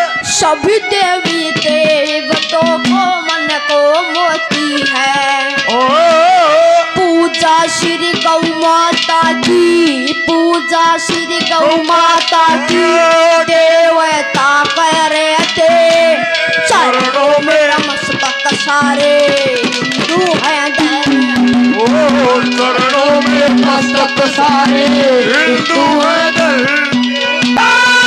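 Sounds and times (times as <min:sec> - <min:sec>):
sliding instrumental melody: 0:00.0 - 0:28.0
hand drum strokes: 0:00.6 - 0:28.0.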